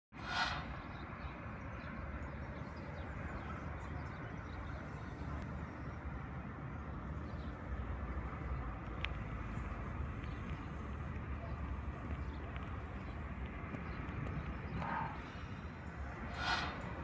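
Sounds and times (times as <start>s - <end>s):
distant traffic hum: 0.1s - 17.0s.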